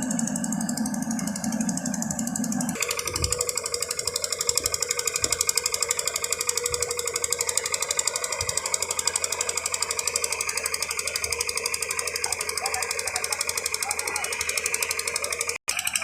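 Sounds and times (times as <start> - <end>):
construction machine rattling: 0.0 - 16.0.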